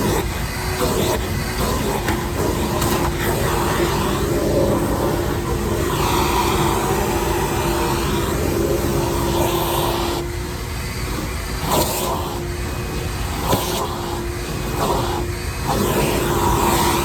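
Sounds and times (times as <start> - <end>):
shop vac running: 0.0 - 17.0.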